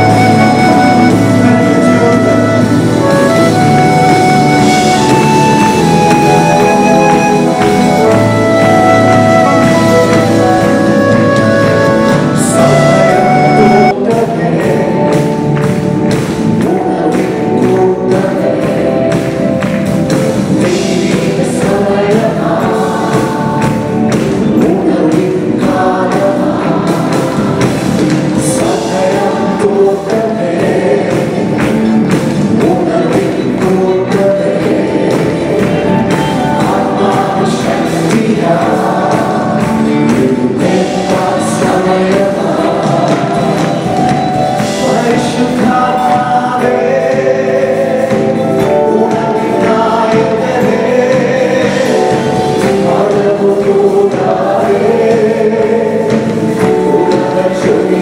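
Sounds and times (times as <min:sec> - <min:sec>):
choir singing gospel song: 0:00.0 - 0:58.0
instrumental accompaniment: 0:00.0 - 0:58.0
steady percussive beat: 0:00.0 - 0:58.0.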